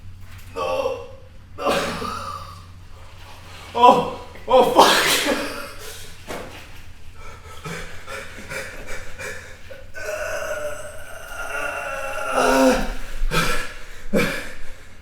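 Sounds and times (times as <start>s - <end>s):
long held groan: 0.4s - 4.8s, 7.2s - 14.9s
person breathing hard: 1.6s - 6.2s, 7.1s - 15.0s.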